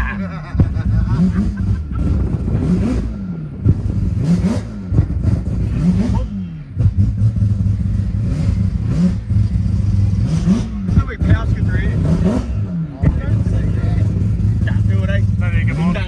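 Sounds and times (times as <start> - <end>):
rotary engine revving: 0.0 - 16.0
sharp exhaust cracks: 0.0 - 16.0.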